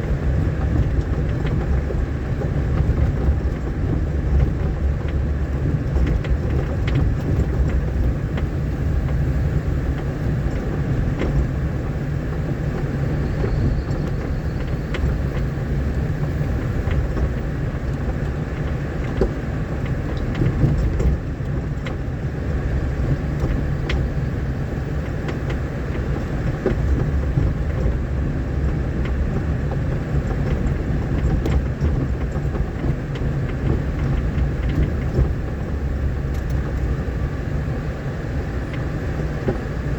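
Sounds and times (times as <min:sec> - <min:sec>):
small knocks and rattles: 0:00.0 - 0:37.4, 0:38.6 - 0:39.9
vehicle rumbling on dirt road: 0:00.0 - 0:39.9.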